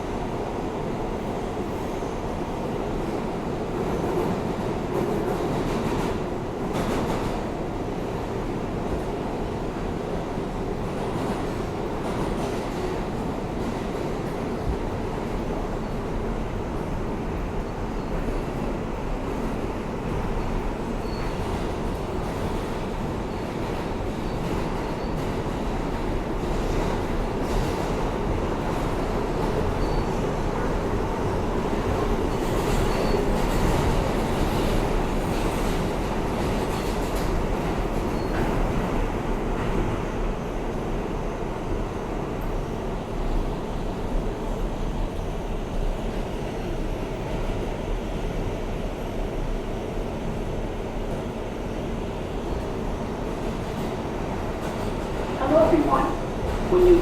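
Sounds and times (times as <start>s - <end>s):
subway car wheels rumbling: 0.0s - 57.0s.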